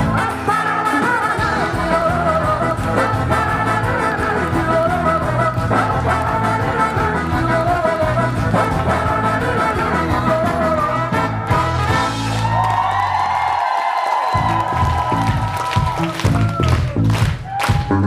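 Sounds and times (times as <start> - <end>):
live band playing: 0.0 - 13.4, 14.3 - 18.0
bass and drum rhythm: 0.0 - 13.6, 14.3 - 18.0.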